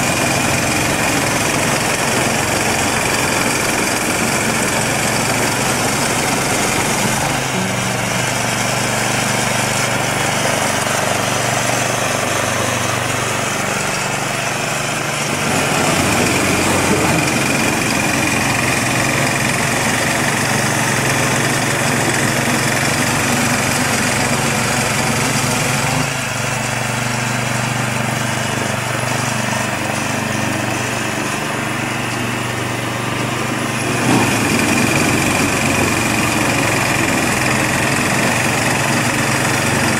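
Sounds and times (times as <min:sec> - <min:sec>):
snow blower throwing snow: 0:00.0 - 0:39.9
tiller engine running: 0:00.0 - 0:39.9.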